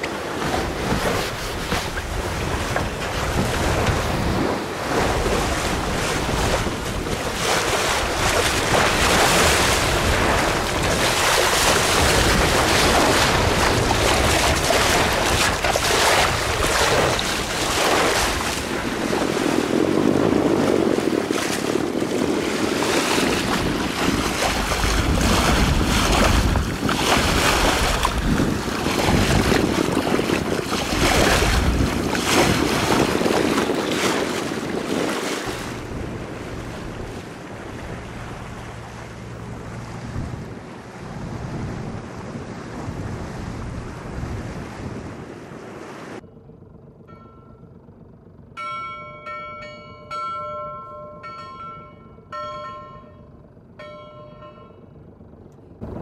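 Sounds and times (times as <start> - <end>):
wind buffeting microphone: 0.0 - 46.2
water rushing along hull: 0.0 - 56.0.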